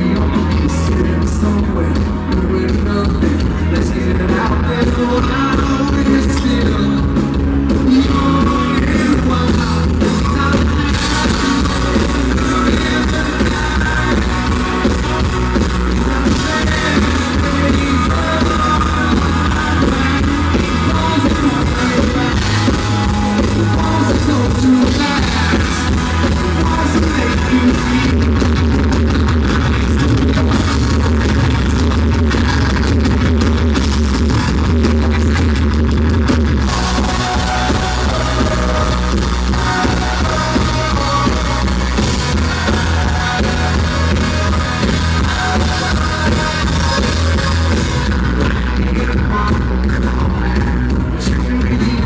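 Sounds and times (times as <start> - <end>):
person singing: 0.0 - 33.2, 36.6 - 52.0
country band playing live: 0.0 - 52.0.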